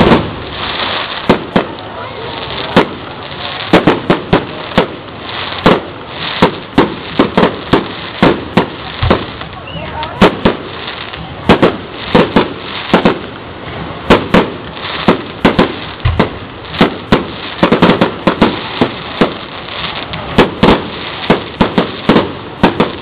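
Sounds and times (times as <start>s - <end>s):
fireworks bangs: 0.0s - 23.0s
steady background hiss: 0.0s - 23.0s.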